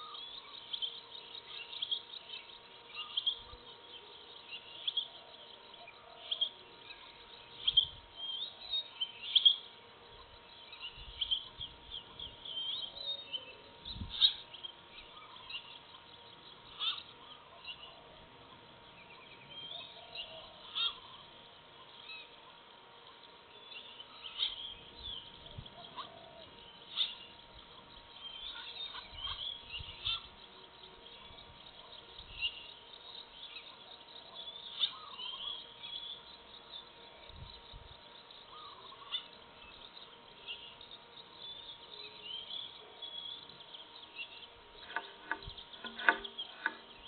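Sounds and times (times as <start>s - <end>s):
birds chirping: 0.0s - 47.0s
faint steady hum: 0.0s - 47.0s.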